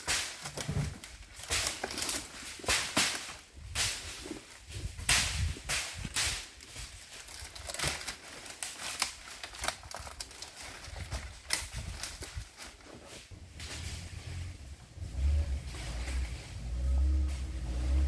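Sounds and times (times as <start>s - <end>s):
dry palm fronds crackling underfoot: 0.0s - 18.0s.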